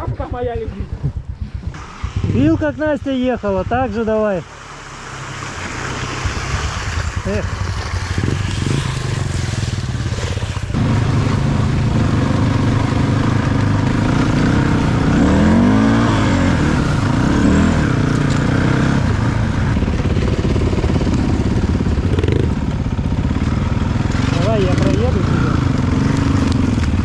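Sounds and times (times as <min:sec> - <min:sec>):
off-road vehicle engine revving: 0:01.8 - 0:27.0.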